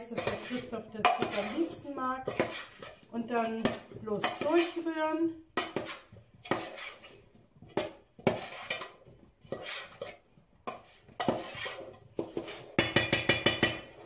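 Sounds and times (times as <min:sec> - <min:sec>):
spoon scraping and clinking in bowl: 0:00.0 - 0:04.9, 0:05.6 - 0:14.0.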